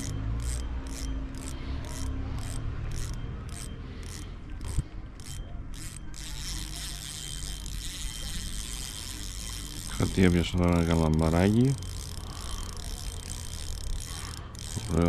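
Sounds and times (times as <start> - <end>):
fishing reel cranking rasp: 0.0 - 15.0.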